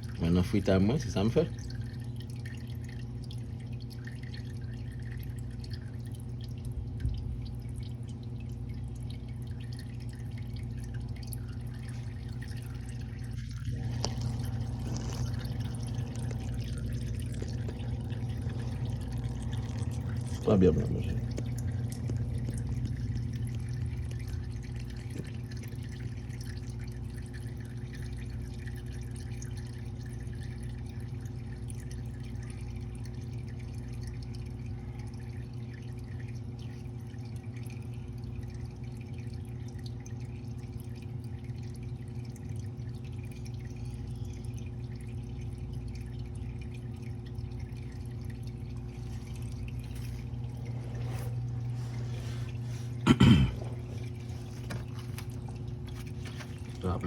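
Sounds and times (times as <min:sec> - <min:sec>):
oil dripping into a pan: 0:00.0 - 0:50.6
steady low hum: 0:00.0 - 0:57.0.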